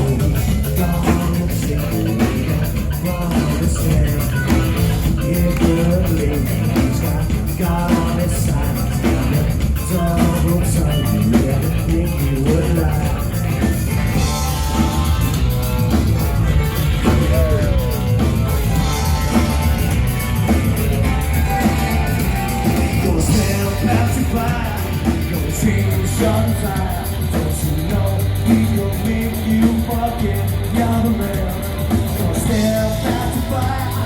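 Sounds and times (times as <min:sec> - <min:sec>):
drum kit: 0:00.0 - 0:34.0
rock guitar: 0:00.0 - 0:34.0.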